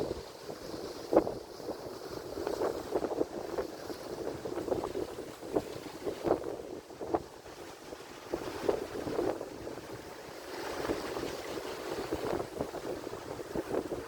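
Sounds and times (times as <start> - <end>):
surf splashing on shore: 0.0 - 14.0.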